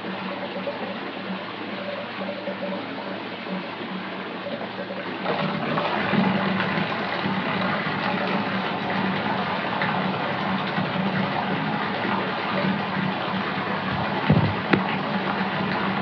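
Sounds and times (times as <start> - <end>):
tap water running into bathtub: 0.0 - 16.0.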